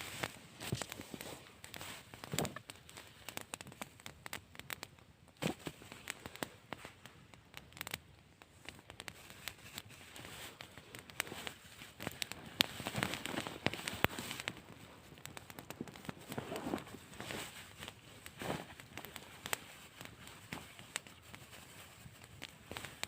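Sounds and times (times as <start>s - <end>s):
irregular crackling: 0.0s - 23.0s
sharp pops and clicks: 0.0s - 23.0s.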